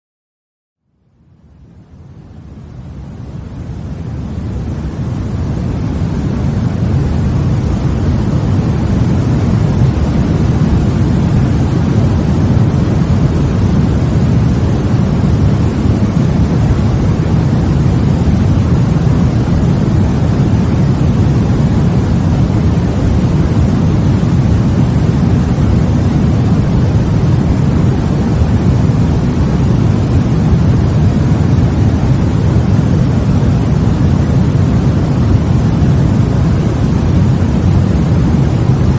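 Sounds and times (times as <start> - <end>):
low white noise rush: 0.8 - 38.9.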